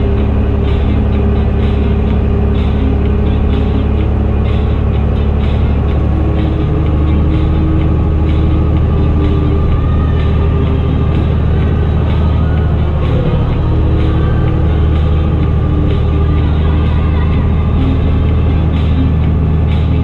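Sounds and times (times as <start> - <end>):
tractor diesel engine drone: 0.0 - 20.0.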